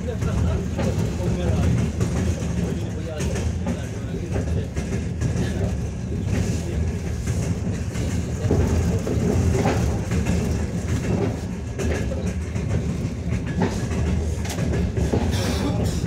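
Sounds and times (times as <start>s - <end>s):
rail joint clacks: 0.0s - 16.0s
train wheels rumbling on rails: 0.0s - 16.0s.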